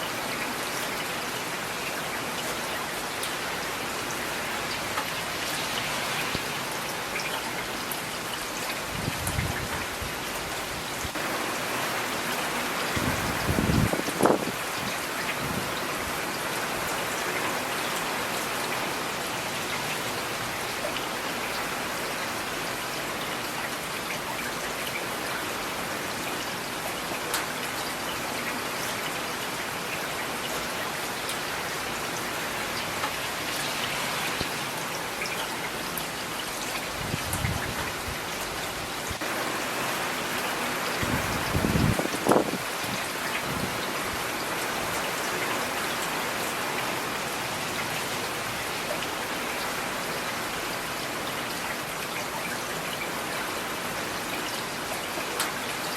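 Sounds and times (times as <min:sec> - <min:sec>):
rain on hard surfaces: 0:00.0 - 0:55.9
close raindrops striking: 0:00.1 - 0:55.9.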